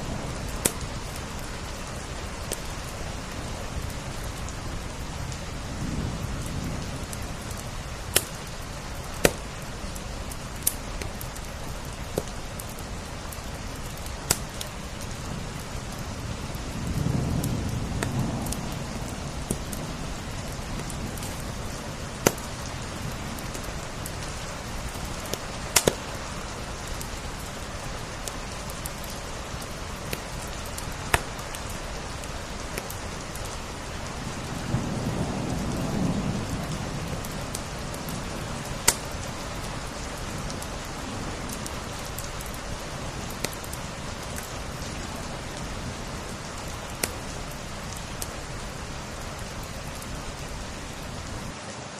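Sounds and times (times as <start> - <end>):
wood fire crackling and popping: 0.0 - 51.5
steady rain: 0.0 - 51.9.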